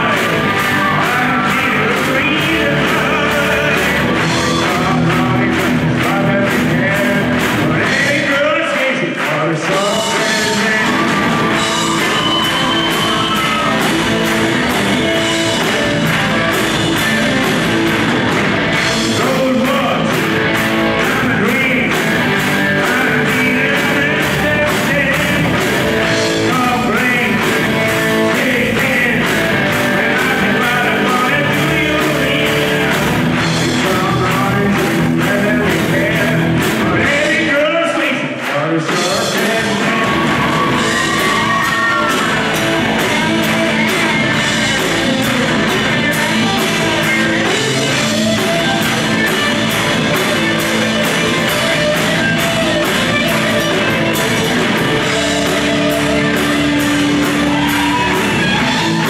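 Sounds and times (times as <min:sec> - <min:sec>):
man singing: 0:00.0 - 0:17.9, 0:18.7 - 0:59.0
bass guitar: 0:00.0 - 0:59.0
drum kit: 0:00.0 - 0:59.0
electric guitars: 0:00.0 - 0:59.0.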